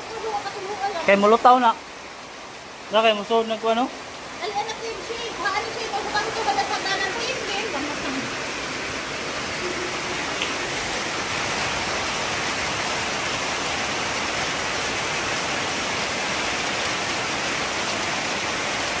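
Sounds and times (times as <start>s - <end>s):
heavy rain pouring on concrete: 0.0s - 19.0s
runoff splashing into water: 0.0s - 19.0s.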